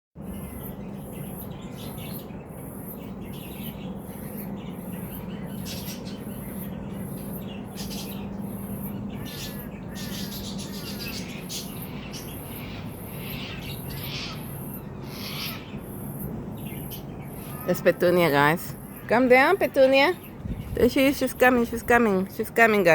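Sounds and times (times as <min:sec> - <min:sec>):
birds chirping and calling: 0:00.2 - 0:22.9
steady low hum: 0:00.2 - 0:22.9.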